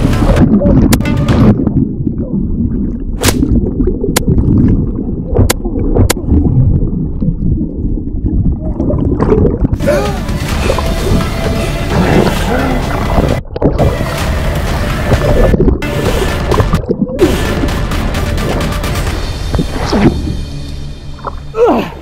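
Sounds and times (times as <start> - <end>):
underwater churning rumble: 0.0 - 21.5
water splashing: 0.0 - 21.5.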